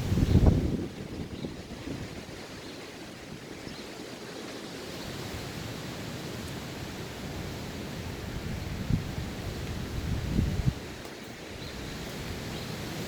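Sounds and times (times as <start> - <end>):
wind blowing across microphone: 0.0 - 3.9, 4.9 - 13.0.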